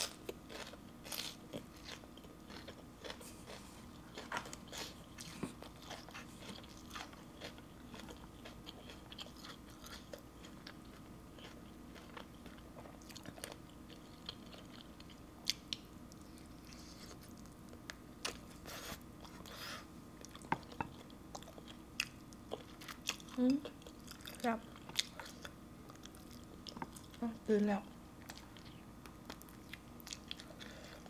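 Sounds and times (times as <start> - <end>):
person chewing with wet crunches: 0.0 - 27.3, 28.2 - 31.0.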